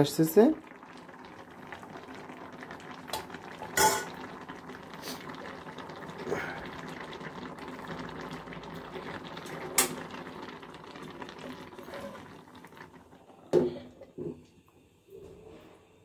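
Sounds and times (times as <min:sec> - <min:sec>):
thick food bubbling in a pot: 0:00.0 - 0:15.6.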